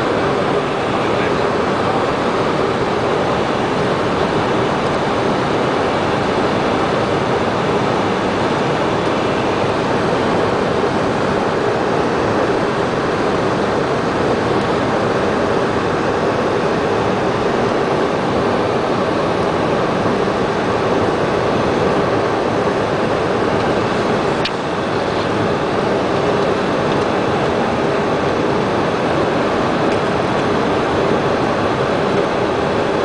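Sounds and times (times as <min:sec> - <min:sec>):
jet cockpit airflow rushing: 0:00.0 - 0:33.0
turbofan engines: 0:00.0 - 0:33.0.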